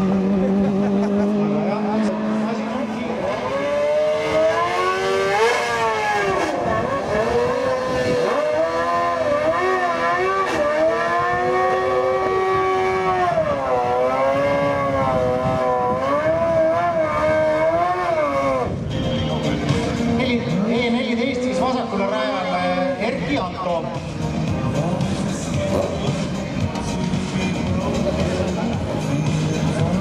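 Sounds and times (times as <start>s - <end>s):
motorcycle engine revving: 0.0s - 23.3s, 23.9s - 30.0s.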